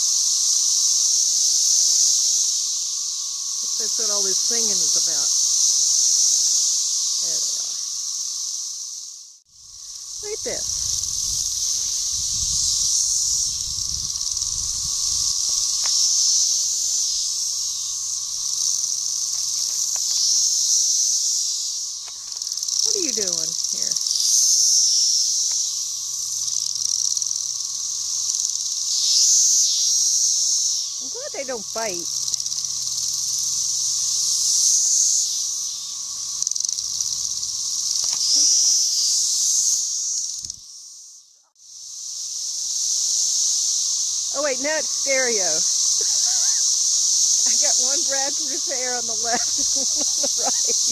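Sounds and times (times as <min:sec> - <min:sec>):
cicadas singing: 0:00.0 - 0:50.9.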